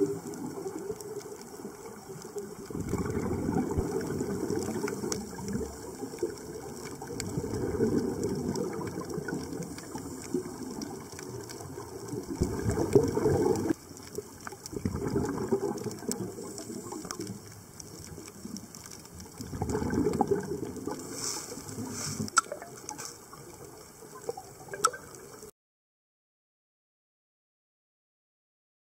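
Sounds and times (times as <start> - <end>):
faint clicks: 0.0 - 25.5
underwater bubbling exhaust: 0.0 - 25.5.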